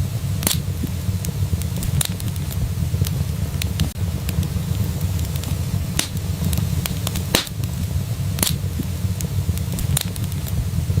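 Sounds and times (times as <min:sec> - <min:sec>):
low rumble of flames: 0:00.0 - 0:11.0
fire crackling and popping: 0:00.2 - 0:10.5.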